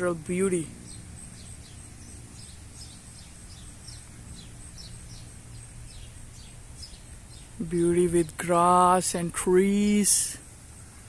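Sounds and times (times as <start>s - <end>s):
faint high hiss: 0.0s - 11.0s
songbird chirping: 0.0s - 11.0s
steady low rumble: 0.0s - 11.0s.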